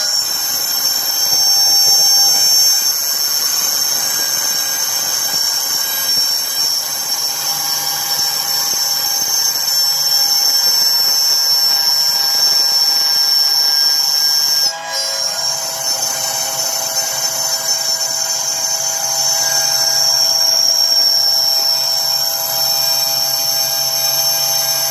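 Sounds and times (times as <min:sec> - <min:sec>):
machine motors whining: 0:00.0 - 0:24.9.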